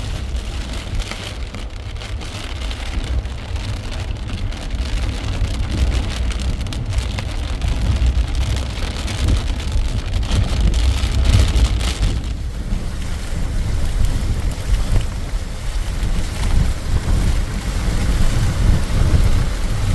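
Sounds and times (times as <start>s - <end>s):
heavy rain pouring: 0.0s - 19.9s
wind buffeting microphone: 0.0s - 19.9s.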